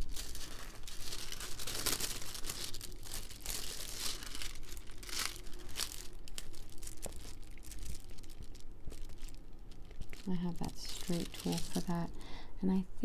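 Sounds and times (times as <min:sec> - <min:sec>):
plastic film crinkling: 0:00.0 - 0:12.2.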